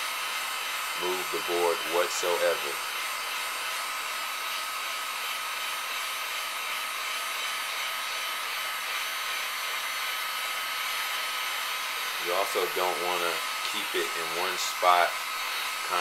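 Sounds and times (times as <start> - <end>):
heat gun blowing: 0.0 - 16.0.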